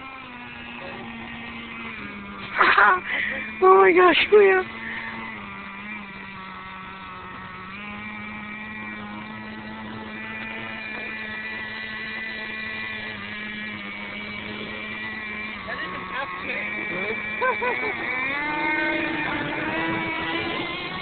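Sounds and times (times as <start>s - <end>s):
small nitro engine humming: 0.0s - 21.0s.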